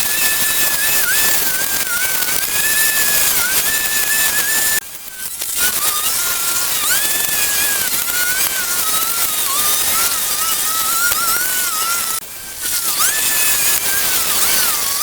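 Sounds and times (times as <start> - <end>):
hissing noise: 0.0 - 15.0
power tool whining: 0.0 - 15.0.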